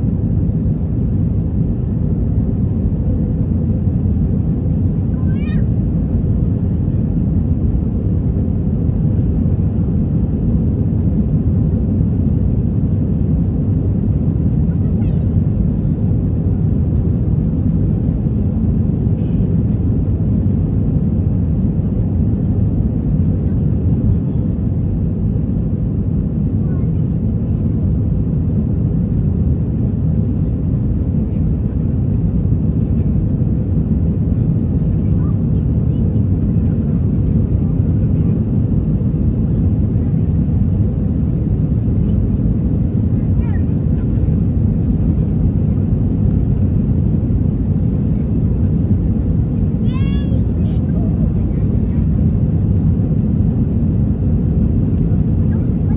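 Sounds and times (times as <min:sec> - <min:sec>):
aircraft cabin engine rumble: 0:00.0 - 0:55.9.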